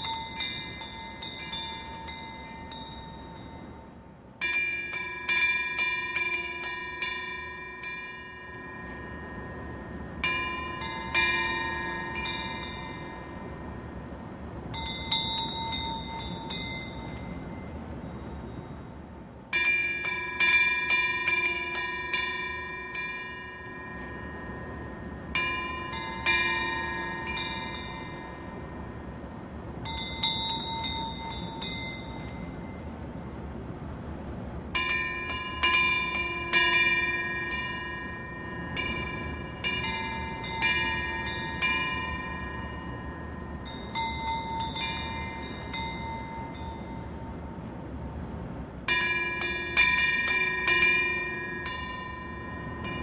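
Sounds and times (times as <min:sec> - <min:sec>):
background wind rush: 0:00.0 - 0:53.0
wind bells ringing: 0:00.0 - 0:53.0.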